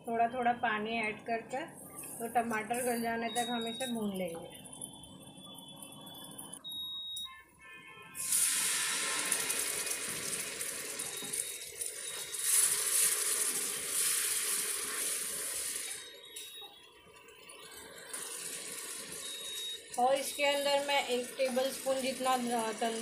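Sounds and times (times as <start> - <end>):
masala sizzling in hot oil: 1.7 - 7.0, 8.2 - 23.0.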